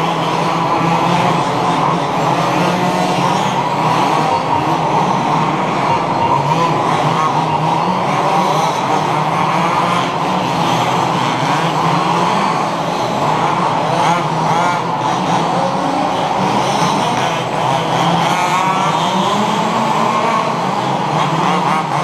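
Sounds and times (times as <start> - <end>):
rc buggy engines buzzing: 0.0 - 22.0.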